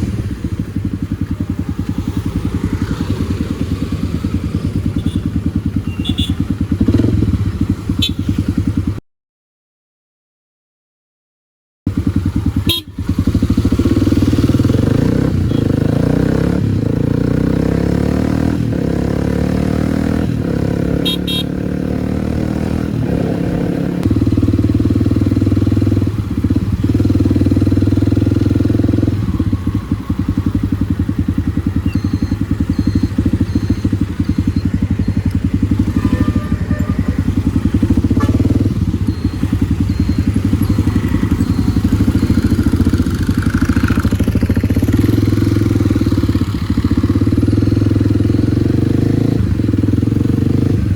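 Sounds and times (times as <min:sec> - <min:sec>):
motorcycle engine running: 0:00.0 - 0:09.0, 0:11.9 - 0:50.9.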